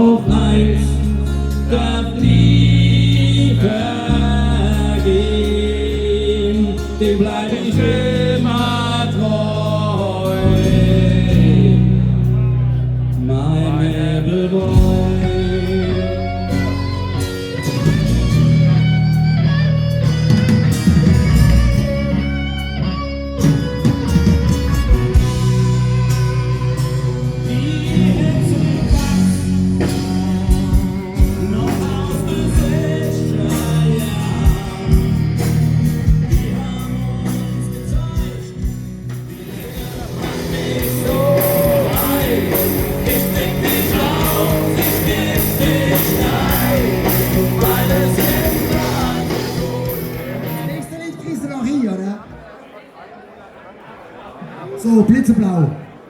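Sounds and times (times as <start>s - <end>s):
person singing: 0.0s - 18.9s, 23.4s - 51.2s
live rock band: 0.0s - 51.6s.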